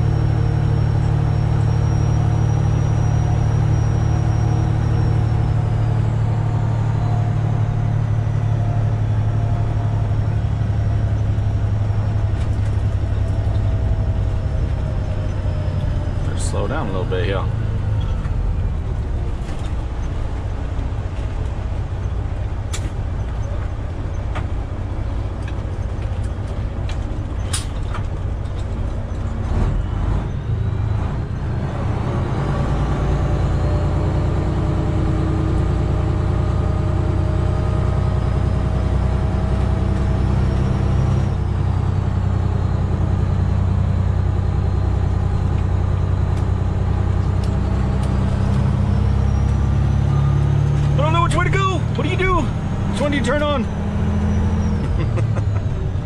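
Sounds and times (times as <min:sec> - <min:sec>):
diesel engine pulling: 0:00.0 - 0:56.0
tyre and road noise: 0:00.0 - 0:56.0.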